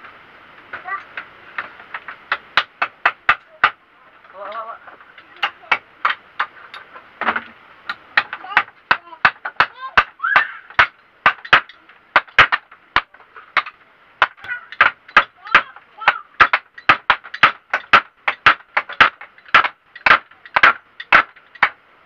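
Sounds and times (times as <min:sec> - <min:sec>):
hammer knocking on wood: 0:01.6 - 0:06.5, 0:07.2 - 0:21.8.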